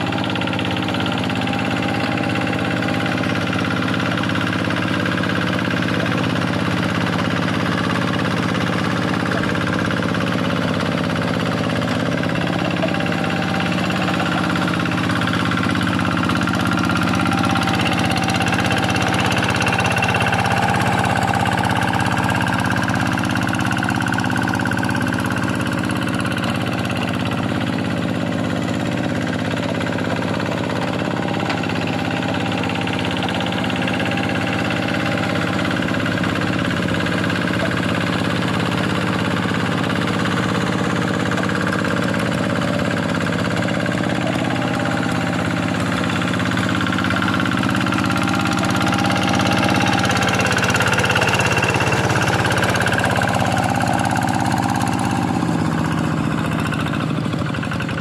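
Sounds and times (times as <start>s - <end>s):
diesel hand tractor engine running: 0.0s - 58.0s.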